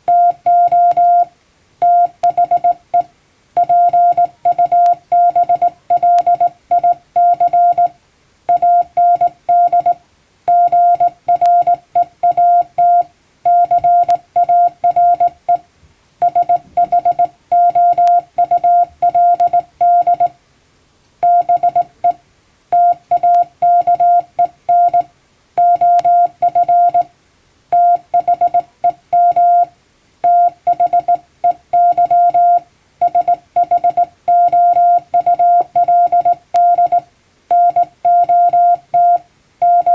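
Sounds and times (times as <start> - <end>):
morse code tone: 0.0 - 15.6, 16.2 - 20.4, 21.2 - 27.1, 27.7 - 39.9.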